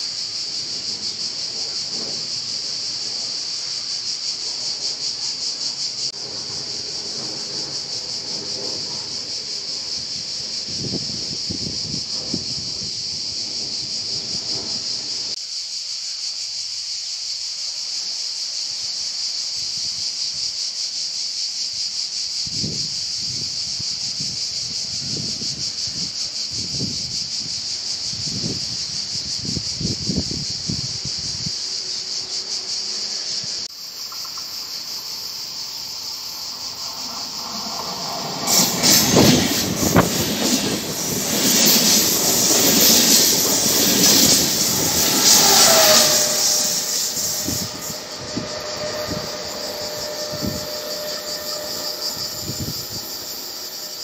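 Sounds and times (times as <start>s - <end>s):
train passing on rails: 0.0s - 15.4s, 17.8s - 54.0s
insects chirring: 0.0s - 54.0s.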